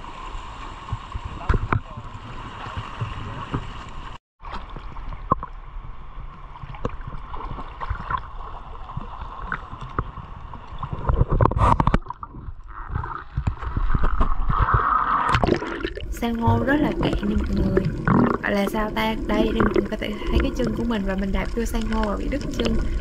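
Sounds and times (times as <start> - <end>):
rush of water: 0.0 - 23.0
water sloshing and gurgling: 0.0 - 23.0.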